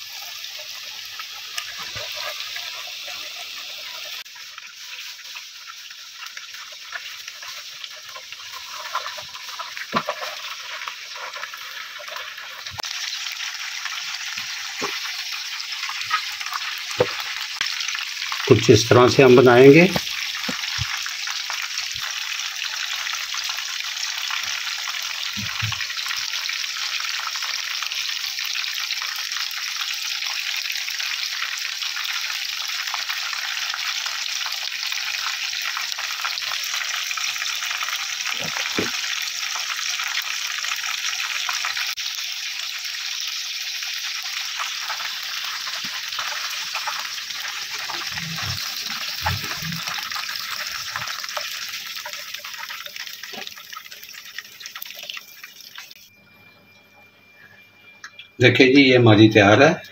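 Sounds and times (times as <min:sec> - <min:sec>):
hot oil sizzling: 0:00.0 - 0:56.4.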